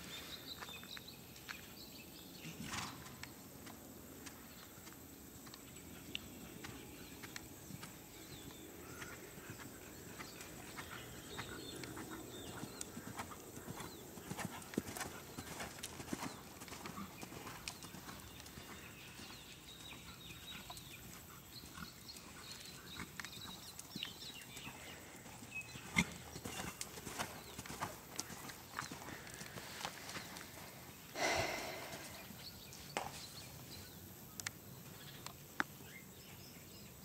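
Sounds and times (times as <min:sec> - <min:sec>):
horse hooves on sand: 0:00.5 - 0:36.3.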